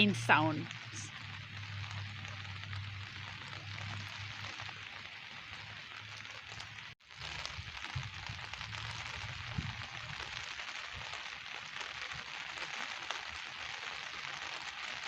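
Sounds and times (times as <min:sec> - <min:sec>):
rain hissing: 0:00.0 - 0:15.0
raindrop ticks: 0:00.0 - 0:15.0.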